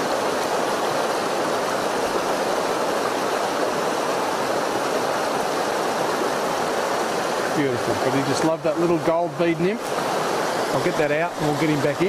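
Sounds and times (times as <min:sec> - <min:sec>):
river flowing over rocks: 0:00.0 - 0:12.0.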